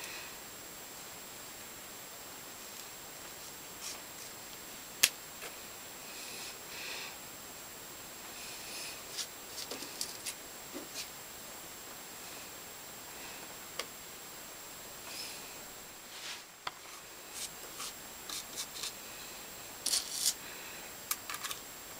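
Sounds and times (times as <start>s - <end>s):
faint steady hiss: 0.0s - 21.9s.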